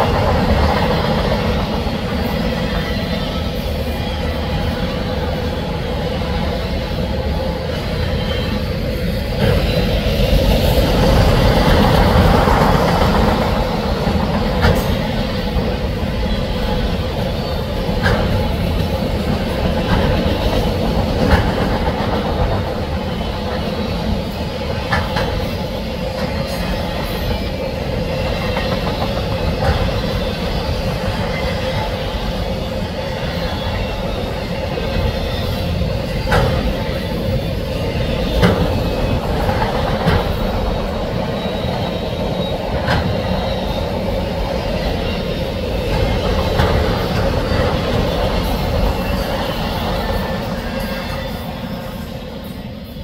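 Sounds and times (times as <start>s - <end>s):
wheels clicking on rails: 0.0s - 52.8s.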